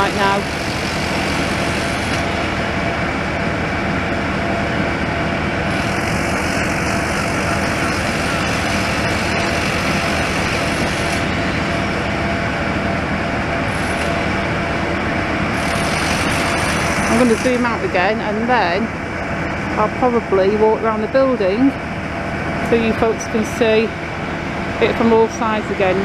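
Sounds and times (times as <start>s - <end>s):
heavy demolition machinery running: 0.0s - 26.0s.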